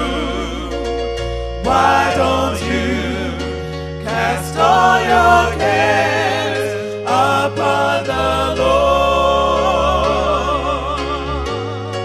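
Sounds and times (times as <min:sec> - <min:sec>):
choir singing: 0:00.0 - 0:00.8, 0:01.6 - 0:12.0
low bass chords: 0:00.0 - 0:12.0.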